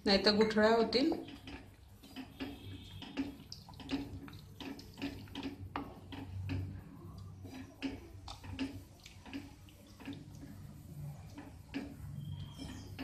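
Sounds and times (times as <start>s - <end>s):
batter sloshing: 0.7s - 13.0s.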